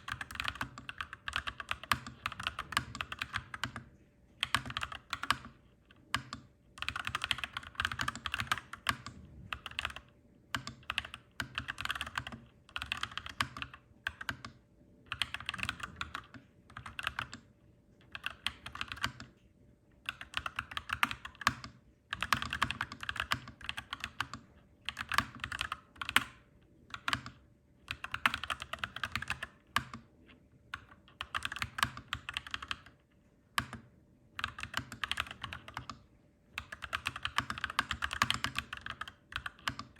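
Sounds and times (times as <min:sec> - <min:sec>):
mechanical keyboard typing: 0:00.0 - 0:19.4, 0:20.0 - 0:30.1, 0:30.7 - 0:39.9.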